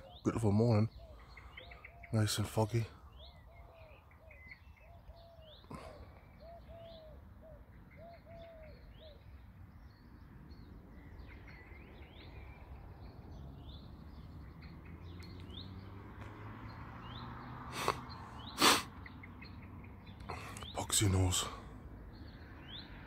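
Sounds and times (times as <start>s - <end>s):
low arched bird call: 0.0s - 23.0s
small birds chirping: 0.0s - 23.0s.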